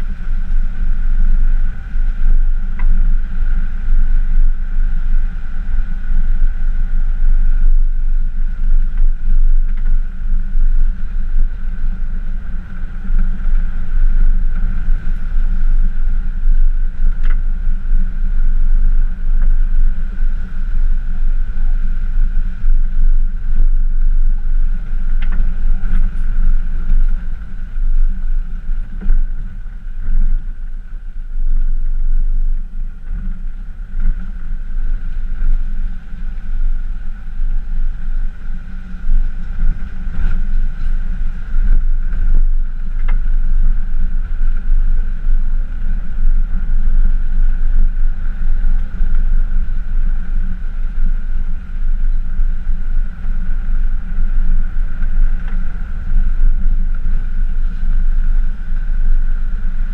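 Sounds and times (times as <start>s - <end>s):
steady whine: 0.0s - 59.9s.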